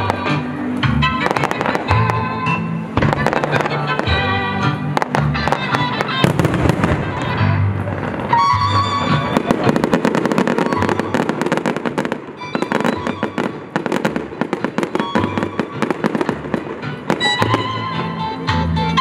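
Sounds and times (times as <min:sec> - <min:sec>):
fireworks popping and banging: 0:00.0 - 0:19.0
music playing: 0:00.0 - 0:19.0.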